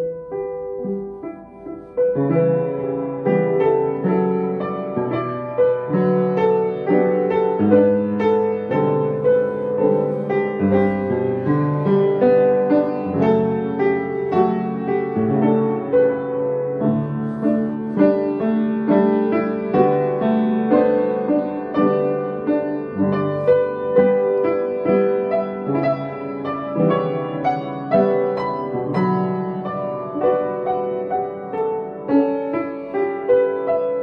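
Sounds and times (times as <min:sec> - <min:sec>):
slow gentle solo piano: 0:00.0 - 0:34.0.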